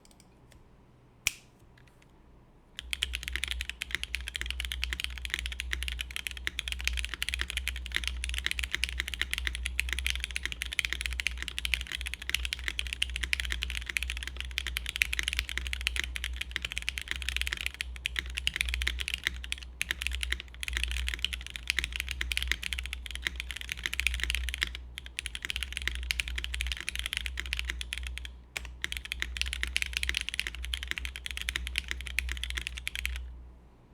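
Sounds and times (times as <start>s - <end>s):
mechanical keyboard typing: 2.8s - 33.3s.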